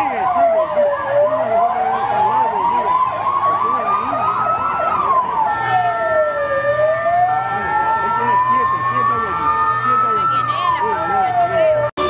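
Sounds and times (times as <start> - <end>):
police siren fast warble: 0.0 - 12.0
police siren slow wail: 0.0 - 12.0
steady held siren tones: 0.0 - 12.0.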